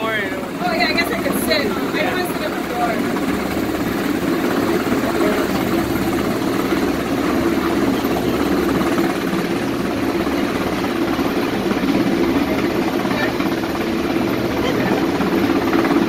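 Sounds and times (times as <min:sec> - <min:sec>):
helicopter hovering overhead: 0:00.0 - 0:16.0.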